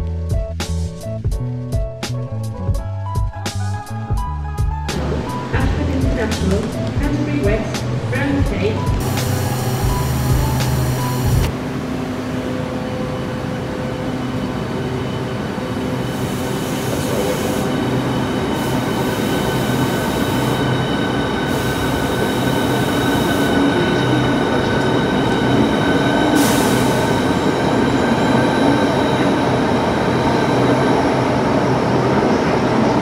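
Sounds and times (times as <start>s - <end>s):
electric train rumbling and whining: 2.4s - 33.0s.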